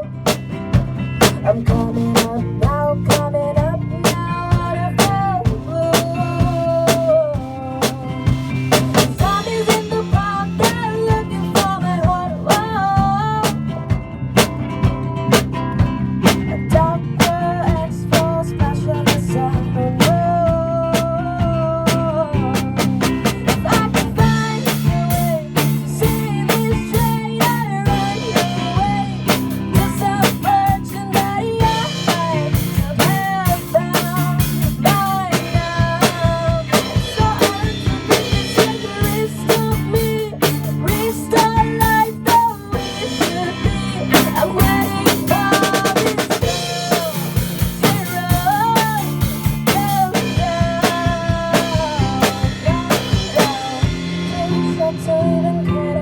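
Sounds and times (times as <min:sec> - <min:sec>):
drum kit beat: 0:00.0 - 0:55.2
bass guitar: 0:00.0 - 0:56.0
electric guitars: 0:00.0 - 0:56.0
keyboard: 0:00.0 - 0:56.0.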